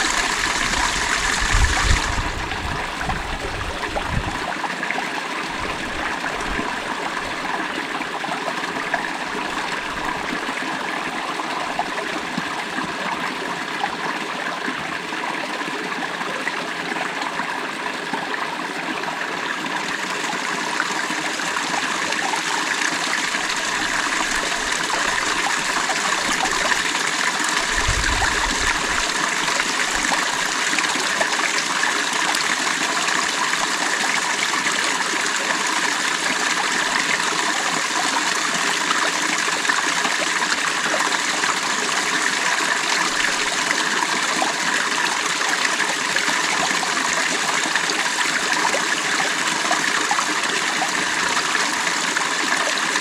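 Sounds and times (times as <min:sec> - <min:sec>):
creek water over stones: 0:00.0 - 0:53.0.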